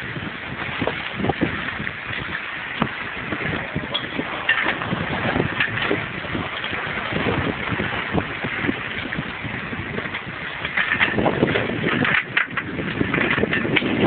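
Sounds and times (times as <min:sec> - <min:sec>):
choppy water washing: 0:00.0 - 0:14.0
wind buffeting microphone: 0:00.0 - 0:14.0.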